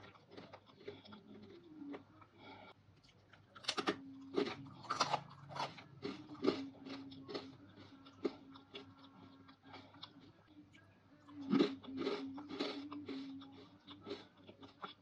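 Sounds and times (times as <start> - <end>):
crunchy chewing: 0.0 - 10.4, 11.3 - 15.0.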